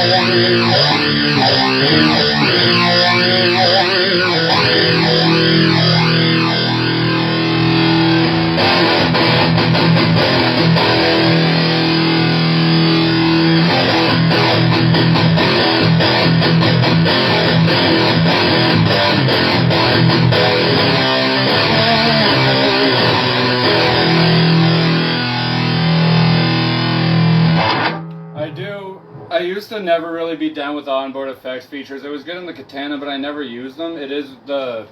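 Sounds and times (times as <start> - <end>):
fuzz distorted electric guitar: 0.0 - 29.6.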